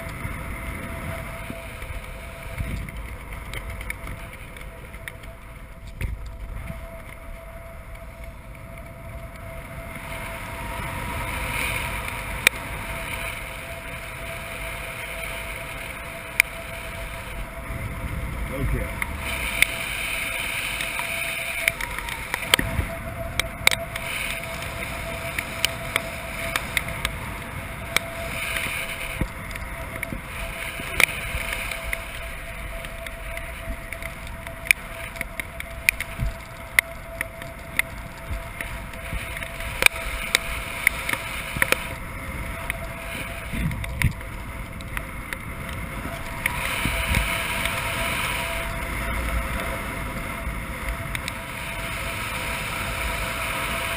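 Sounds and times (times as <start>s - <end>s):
raindrops ticking on camera: 0.0s - 53.9s
airflow rushing over camera: 8.7s - 53.9s.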